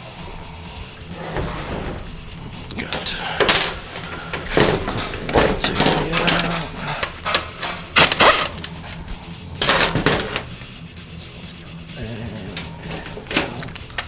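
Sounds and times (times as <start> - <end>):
metal parts clanking and knocking: 0.0 - 14.0
rattling metal scrapes: 0.0 - 14.0.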